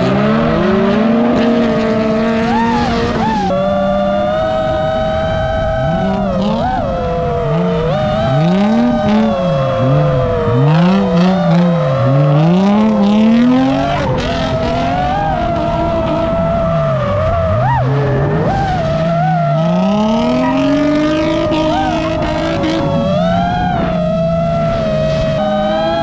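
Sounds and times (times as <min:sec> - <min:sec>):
steady high whine: 0:00.0 - 0:25.3
car engines revving: 0:00.0 - 0:26.0.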